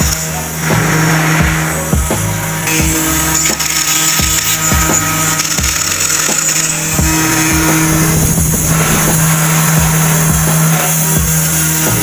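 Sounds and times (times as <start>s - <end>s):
engraving bit cutting wood: 0.0s - 12.0s
router spindle motor humming: 0.0s - 12.0s.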